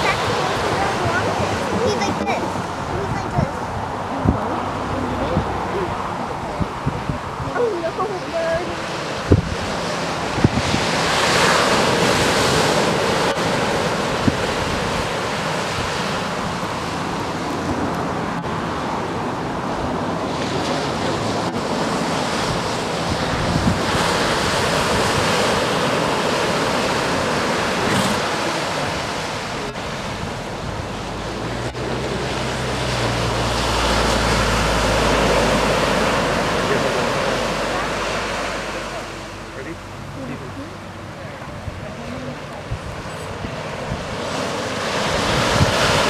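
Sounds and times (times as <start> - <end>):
ocean waves on beach: 0.0 - 46.0
wind buffeting microphone: 0.0 - 46.0.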